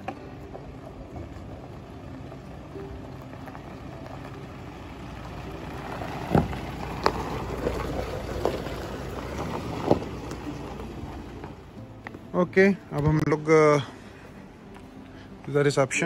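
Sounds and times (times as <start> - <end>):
gravel popping under tyres: 0.0 - 13.9
car engine running low: 0.0 - 14.7
tyres crunching gravel: 0.0 - 16.0.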